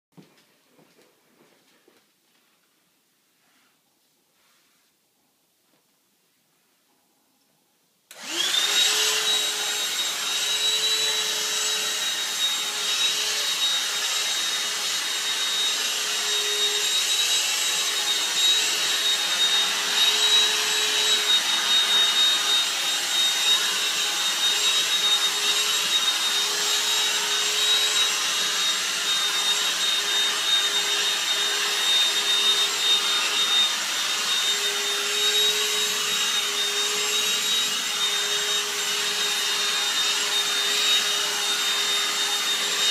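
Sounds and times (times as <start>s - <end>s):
handheld vacuum whining: 8.1s - 42.9s.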